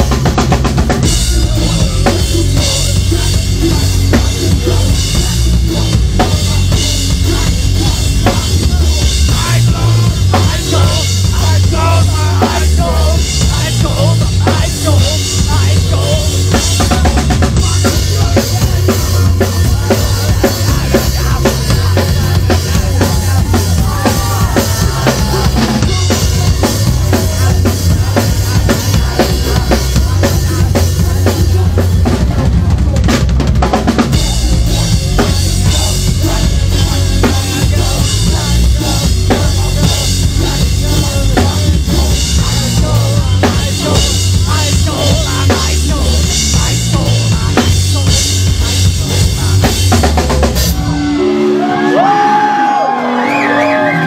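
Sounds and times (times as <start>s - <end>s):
live punk band playing: 0.0s - 54.0s
pounding drum kit: 0.0s - 54.0s.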